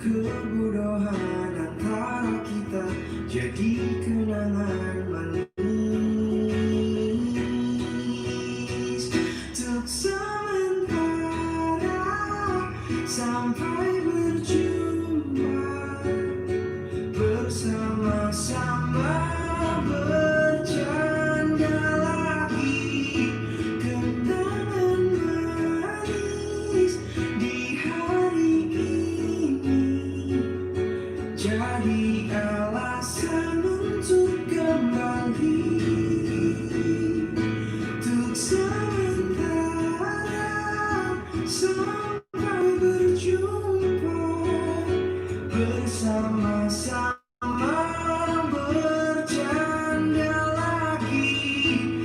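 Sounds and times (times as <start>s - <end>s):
pop song with guitar: 0.0s - 52.0s.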